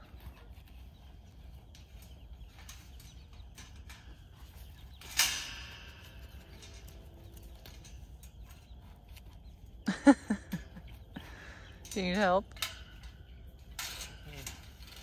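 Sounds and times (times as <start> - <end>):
wire panels clicking and rattling: 0.0 - 15.0.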